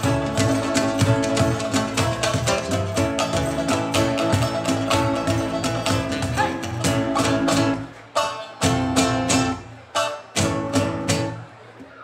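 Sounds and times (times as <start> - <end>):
cajon drumming: 0.0 - 11.5
plucked oud and lute: 0.0 - 11.5.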